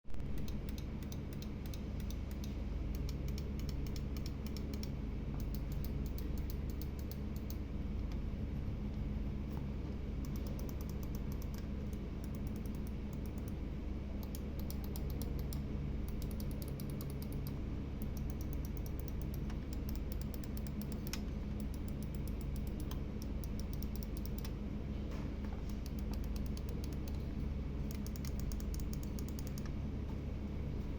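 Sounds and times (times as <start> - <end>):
steady low hum: 0.1 - 30.9.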